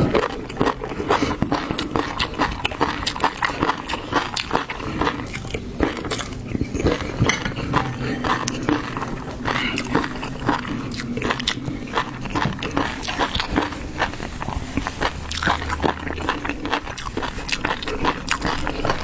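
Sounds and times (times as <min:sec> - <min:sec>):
chewing with wet crunches: 0:00.0 - 0:19.0.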